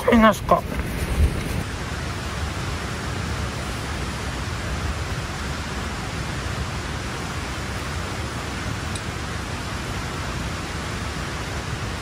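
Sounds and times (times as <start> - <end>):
rushing outdoor ambience: 0.0 - 12.0.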